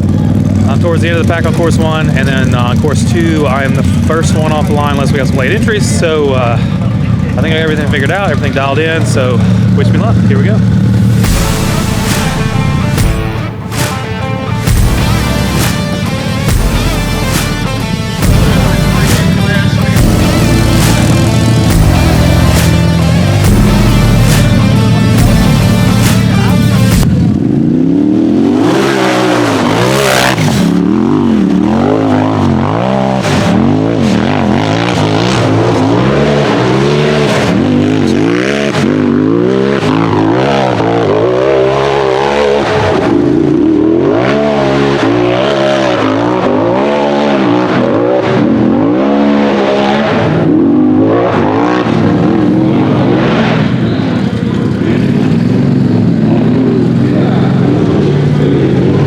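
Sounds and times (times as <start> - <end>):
buggy engine revving hard: 0.0 - 59.0.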